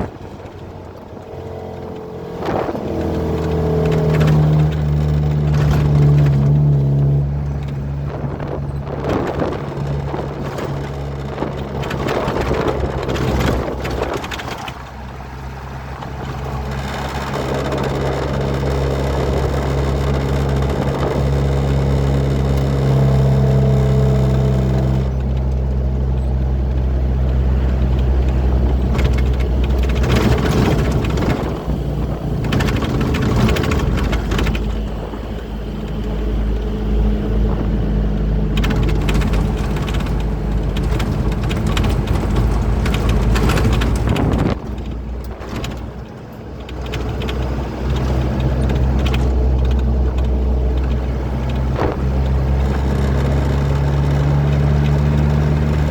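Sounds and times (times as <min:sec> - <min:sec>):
passing traffic noise: 0:00.0 - 0:55.9
truck engine running: 0:00.0 - 0:55.9.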